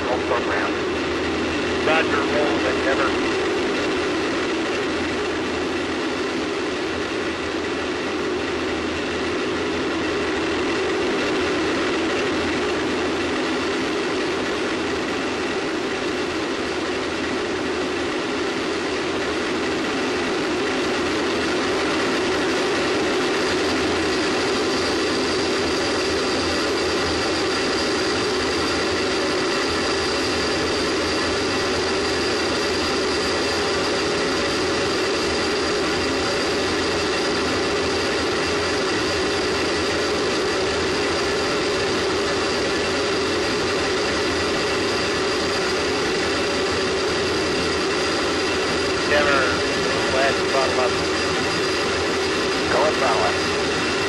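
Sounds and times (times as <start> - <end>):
high constant whine: 0.0 - 54.0.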